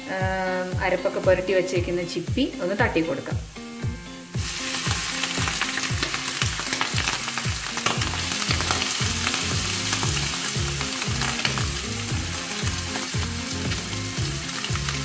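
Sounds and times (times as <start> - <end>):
background music beat: 0.0 - 15.0
food sizzling in hot oil: 0.5 - 15.0.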